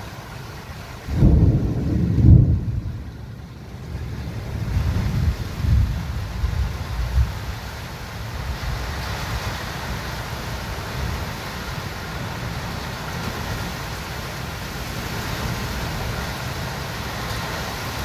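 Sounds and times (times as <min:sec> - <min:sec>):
rain hissing: 0:00.0 - 0:18.0
wind in trees: 0:00.0 - 0:18.0
wind rumbling on microphone: 0:00.7 - 0:18.0.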